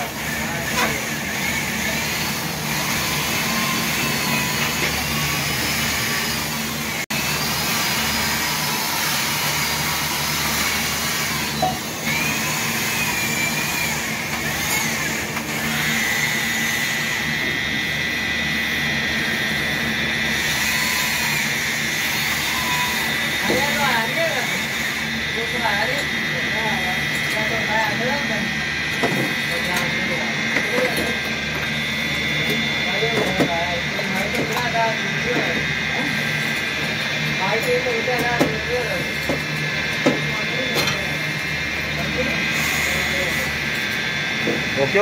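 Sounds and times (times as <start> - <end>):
high wavering whine: 0.0 - 45.0.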